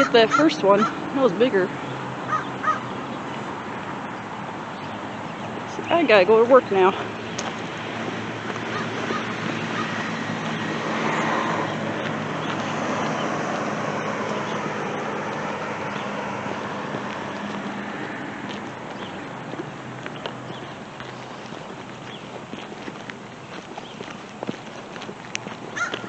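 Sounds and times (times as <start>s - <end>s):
car passing by: 0.2s - 21.6s.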